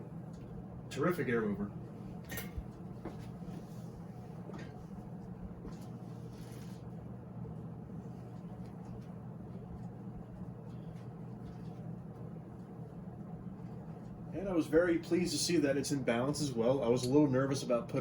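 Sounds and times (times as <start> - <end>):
ceiling fan motor humming: 0.0 - 18.0.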